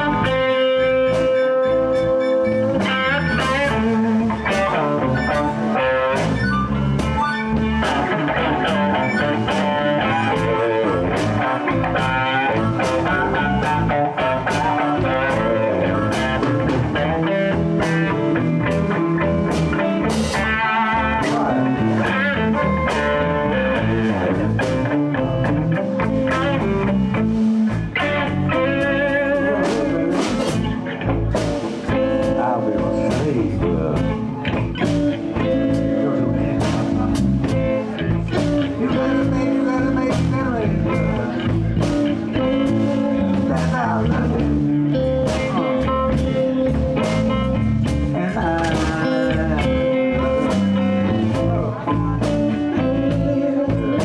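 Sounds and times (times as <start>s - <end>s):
bass: 0.0s - 54.0s
drums: 0.0s - 54.0s
electric guitars: 0.0s - 54.0s.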